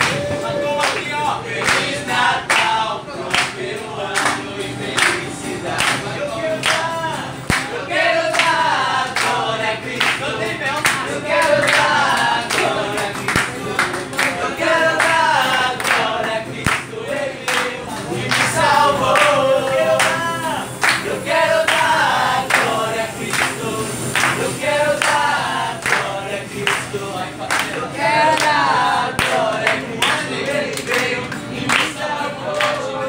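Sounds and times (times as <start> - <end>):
hand claps: 0.0 - 21.1, 21.7 - 21.9, 22.5 - 22.7, 23.3 - 23.6, 24.2 - 33.0
acoustic guitar: 0.0 - 33.0
group singing a carol: 0.0 - 33.0.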